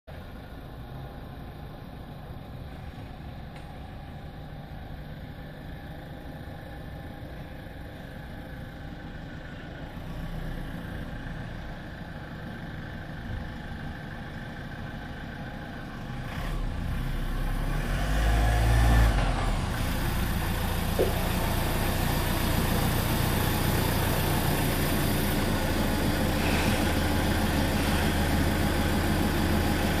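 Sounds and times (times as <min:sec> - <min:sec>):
car engine idling: 0:00.1 - 0:30.0
car engine running at low speed: 0:00.1 - 0:30.0.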